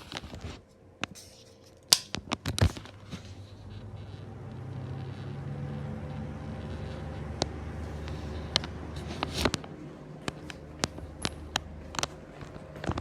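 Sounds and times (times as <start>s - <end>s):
exhaust fans humming: 0.0s - 13.0s.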